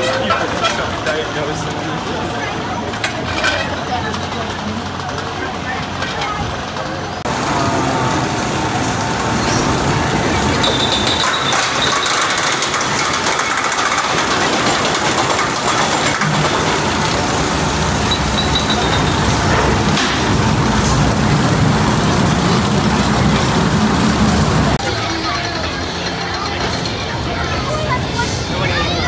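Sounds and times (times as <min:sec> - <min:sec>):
roller coaster rumbling on track: 0:00.0 - 0:29.0.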